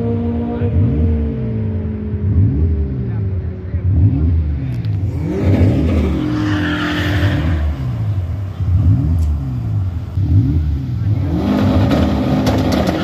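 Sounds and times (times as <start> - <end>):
cars racing past: 0.0 - 13.0.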